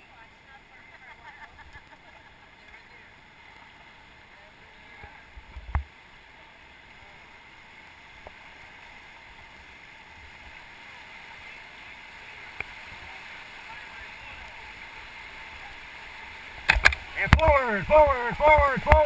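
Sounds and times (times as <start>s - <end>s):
river water rushing: 2.3s - 19.0s.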